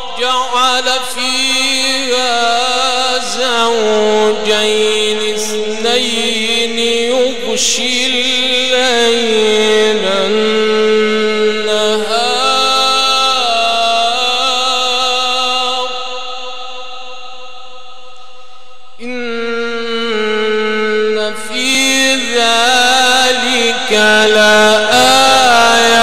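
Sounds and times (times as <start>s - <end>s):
man chanting into a microphone: 0.0s - 17.8s, 18.9s - 26.0s.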